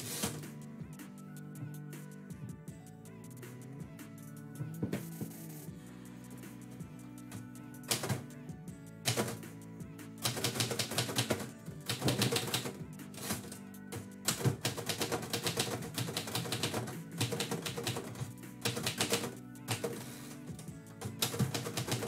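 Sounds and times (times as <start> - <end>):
background music with held tones: 0.0 - 22.0.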